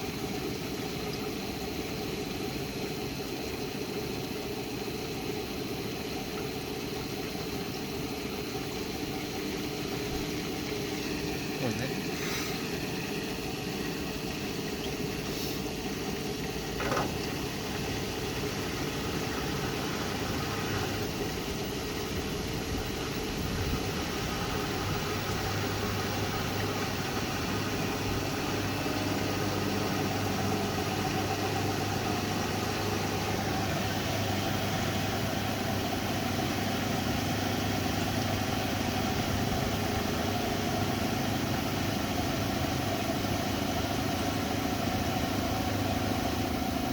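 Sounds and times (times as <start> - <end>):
washing machine motor and drum hum: 0.0 - 46.9.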